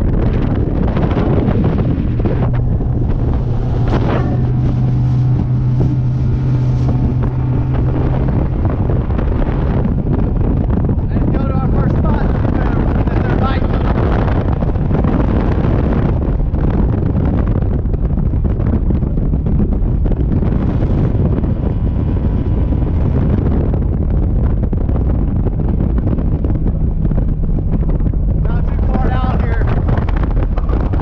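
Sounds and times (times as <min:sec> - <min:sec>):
outboard motor: 0:00.0 - 0:31.0
wind buffeting microphone: 0:00.0 - 0:31.0.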